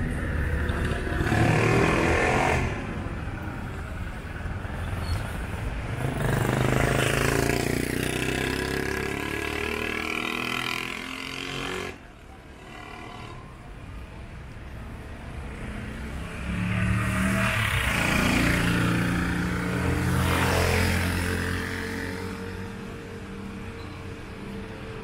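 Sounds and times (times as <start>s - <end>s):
vehicle engines passing: 0.0s - 25.0s.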